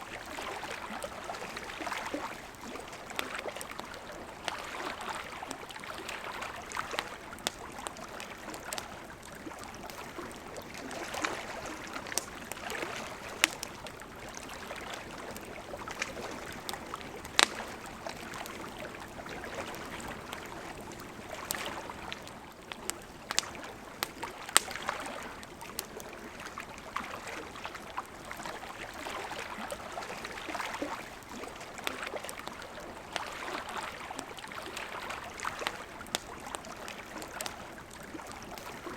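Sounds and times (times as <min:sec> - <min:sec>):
water lapping gently: 0:00.0 - 0:38.9
campfire crackling and popping: 0:00.1 - 0:38.9.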